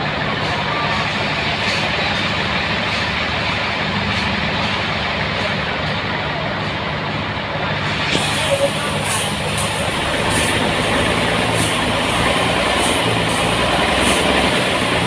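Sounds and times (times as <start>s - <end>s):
sawmill machine drone: 0.0s - 15.0s.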